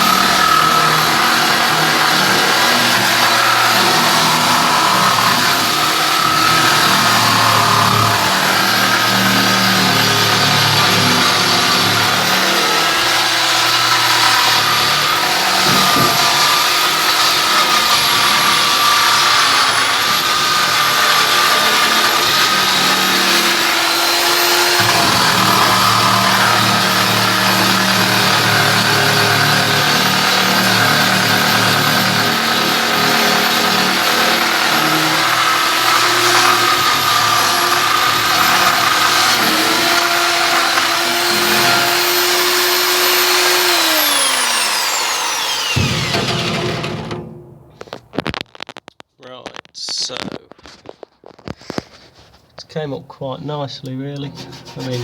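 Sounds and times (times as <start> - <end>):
drill wire brush scouring metal: 0.0 - 47.2, 54.1 - 55.0.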